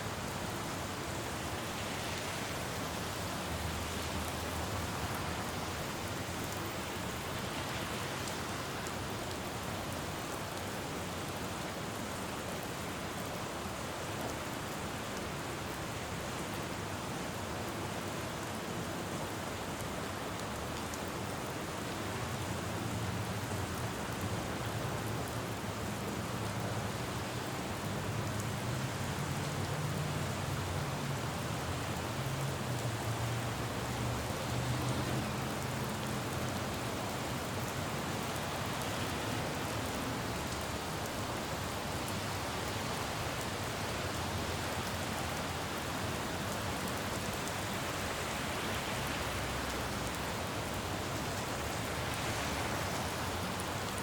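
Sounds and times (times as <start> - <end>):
rain falling on road: 0.0 - 54.0.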